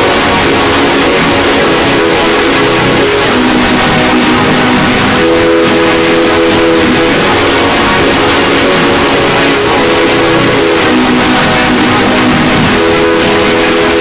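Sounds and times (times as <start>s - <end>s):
harsh distorted low chords: 0.0s - 14.0s.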